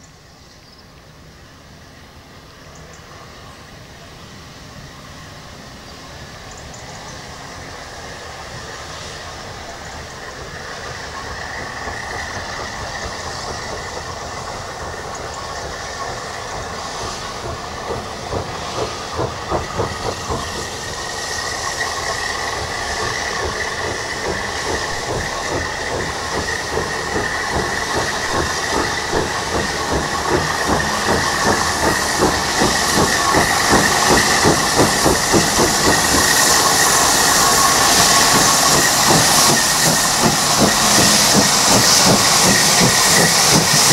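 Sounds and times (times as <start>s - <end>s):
steam hissing: 1.0s - 43.9s
steam locomotive exhaust beating: 2.7s - 43.9s.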